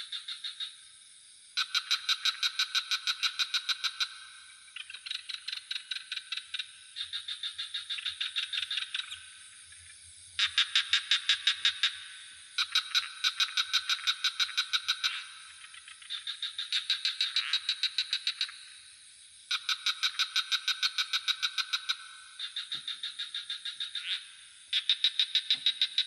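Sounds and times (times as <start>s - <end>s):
frogs calling: 0.0s - 26.0s
high-pitched insect trill: 0.0s - 26.0s.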